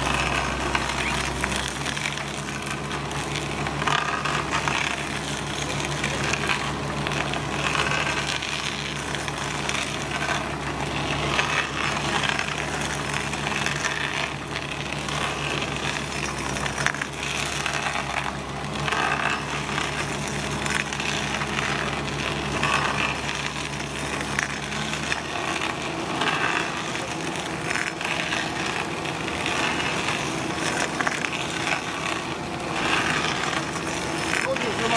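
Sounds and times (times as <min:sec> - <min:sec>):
machine engine running: 0:00.0 - 0:34.9
stump grinder crunching wood: 0:00.0 - 0:34.9.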